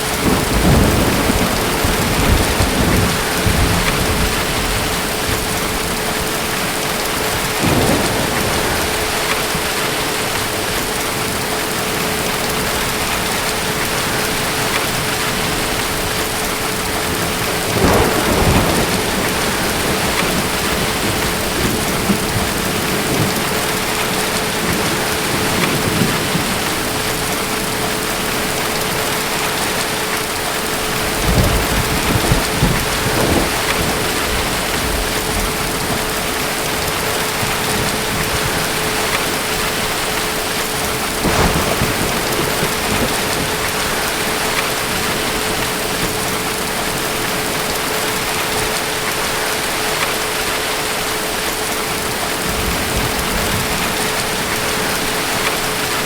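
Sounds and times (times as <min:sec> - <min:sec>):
distant thunder rumbles: 0:00.0 - 0:29.9, 0:30.7 - 0:48.7, 0:52.1 - 0:56.0
heavy rain: 0:00.0 - 0:56.0.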